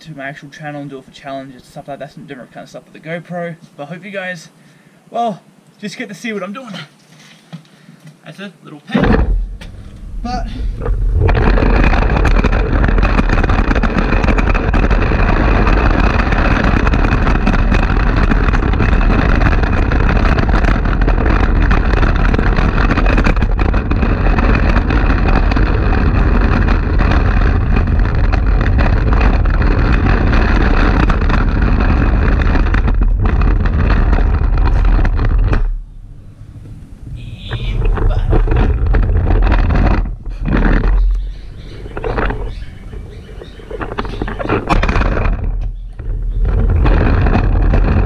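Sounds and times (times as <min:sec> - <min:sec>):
skateboard wheels rolling on concrete: 0:08.8 - 0:48.0.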